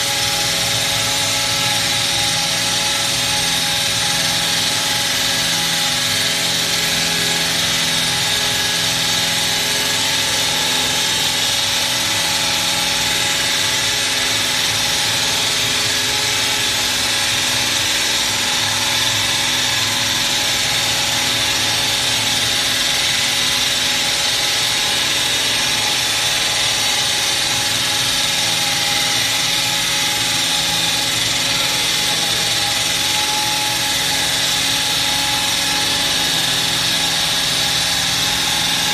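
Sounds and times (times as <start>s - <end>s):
wall saw droning: 0.0s - 38.9s.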